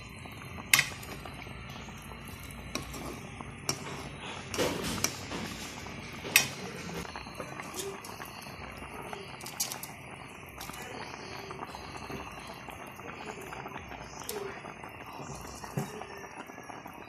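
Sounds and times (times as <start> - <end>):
broth bubbling in a pan: 0.0 - 17.0.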